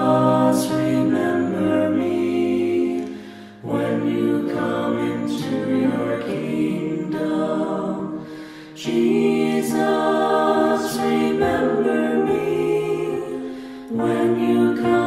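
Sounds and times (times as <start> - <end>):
choir singing a cappella chant: 0.0 - 15.0.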